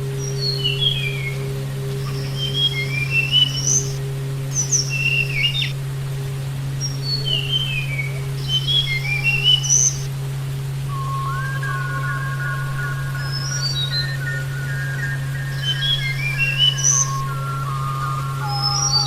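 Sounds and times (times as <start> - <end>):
low hum: 0.0 - 19.0
bird whistled song: 0.2 - 5.8, 6.8 - 10.1, 10.9 - 19.0.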